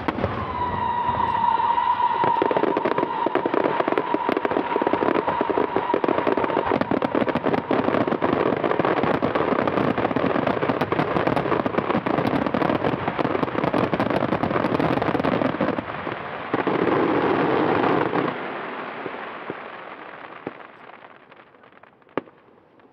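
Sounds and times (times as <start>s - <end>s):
fireworks bursting and crackling: 0.0s - 22.9s.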